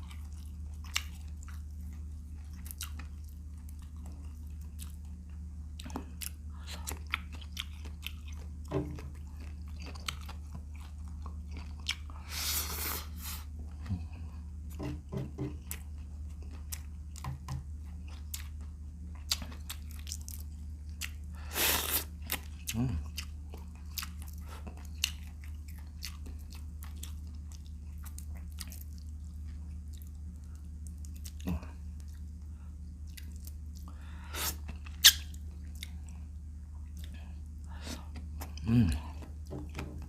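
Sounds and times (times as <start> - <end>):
person chewing and crunching food: 0.0 - 40.0
steady low hum: 0.0 - 40.0.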